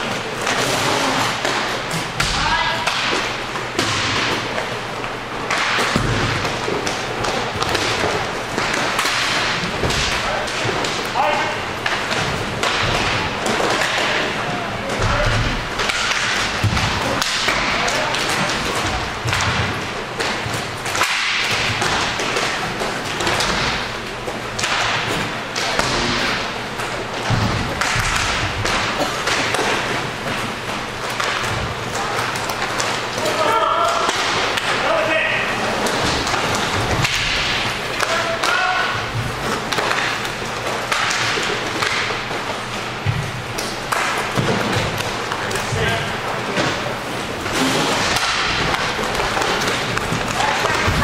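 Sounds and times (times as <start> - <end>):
hockey sticks and puck clacking: 0.0 - 51.0
skates rolling on rink floor: 0.0 - 51.0.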